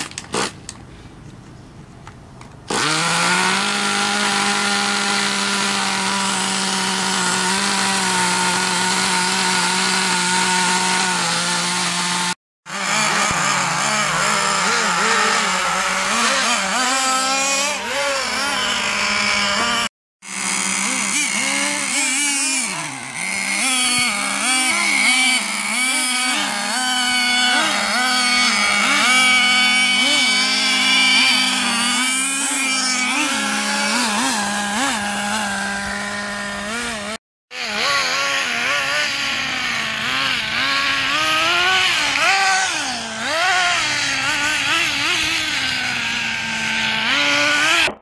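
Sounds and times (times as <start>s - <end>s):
model car engines revving: 2.6s - 48.0s.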